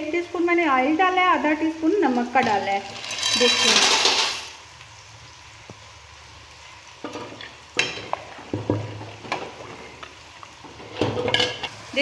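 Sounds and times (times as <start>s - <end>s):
boiling water hiss: 0.0s - 12.0s.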